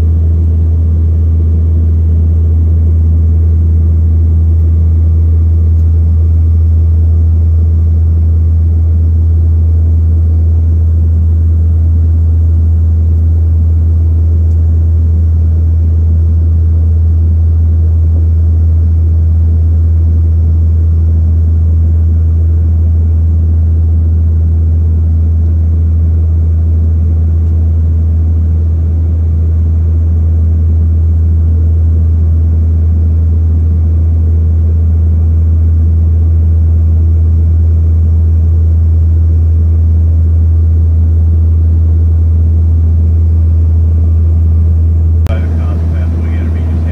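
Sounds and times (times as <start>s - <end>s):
propeller plane engine drone: 0.0s - 46.9s.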